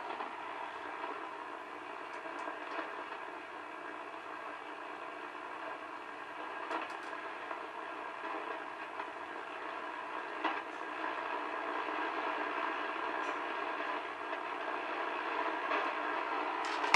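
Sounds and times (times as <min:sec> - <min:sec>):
radio static hiss: 0:00.0 - 0:16.9.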